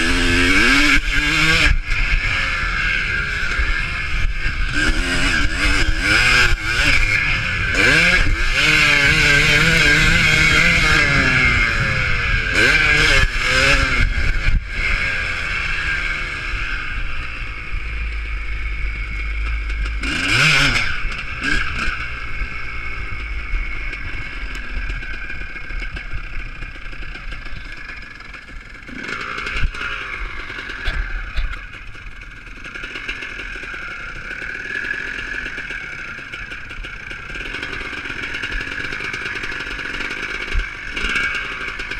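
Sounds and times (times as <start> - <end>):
motocross bike engines revving: 0.0 - 41.9
motorbike passing close: 0.0 - 41.9.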